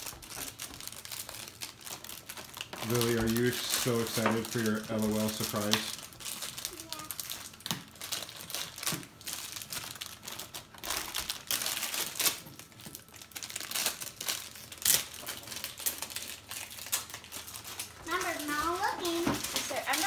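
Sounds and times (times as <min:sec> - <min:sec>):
plastic packaging crinkling and tearing: 0:00.0 - 0:20.0.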